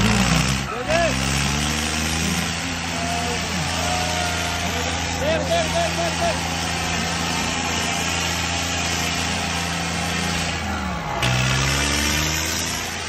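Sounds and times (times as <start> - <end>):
diesel tractors under full load: 0.0 - 13.0.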